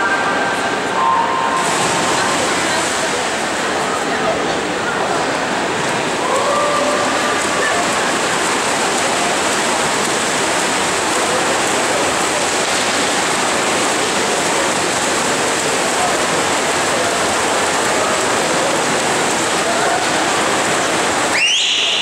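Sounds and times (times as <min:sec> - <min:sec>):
swimmers splashing: 0:00.7 - 0:22.0.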